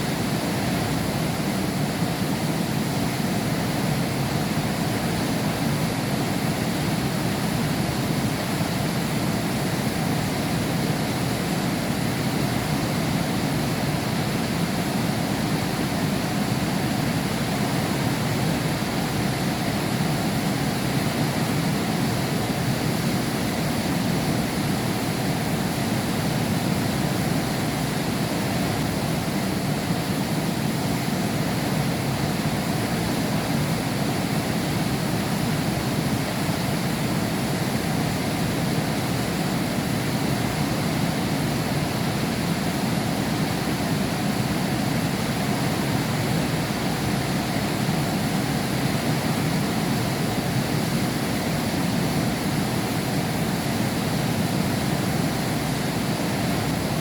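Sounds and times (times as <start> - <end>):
heavy rain behind a window: 0.0 - 57.0.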